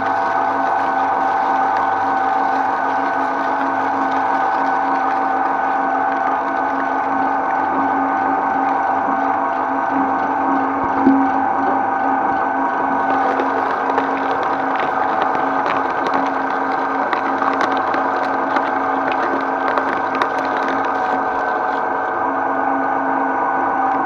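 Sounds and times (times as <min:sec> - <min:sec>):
shredder motor hum: 0:00.0 - 0:22.8.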